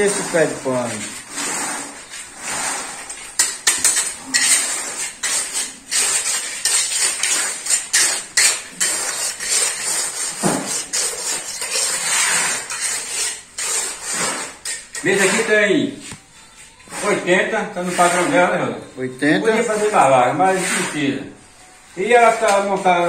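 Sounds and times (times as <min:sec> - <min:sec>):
concrete sliding out of bucket: 0:00.0 - 0:16.2, 0:16.8 - 0:18.8, 0:19.4 - 0:21.2
trowel scraping concrete: 0:00.0 - 0:21.4, 0:22.0 - 0:23.0.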